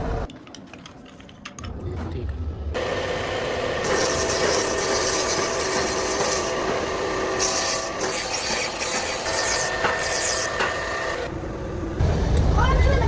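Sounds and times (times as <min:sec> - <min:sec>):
factory machinery running: 0:01.8 - 0:13.0.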